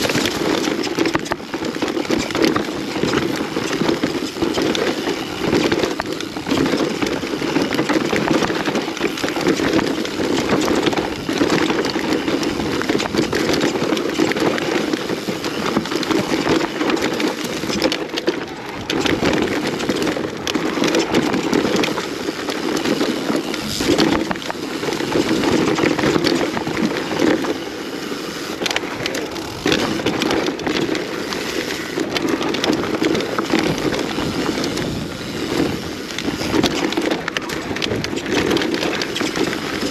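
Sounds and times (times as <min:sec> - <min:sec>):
bike tyres rolling over dirt: 0:00.0 - 0:39.9.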